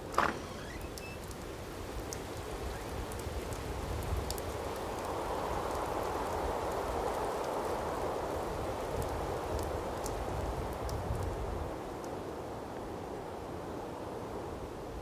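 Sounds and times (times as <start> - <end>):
light raindrop ticks: 0.0 - 13.1
steady rain hiss: 0.0 - 15.0.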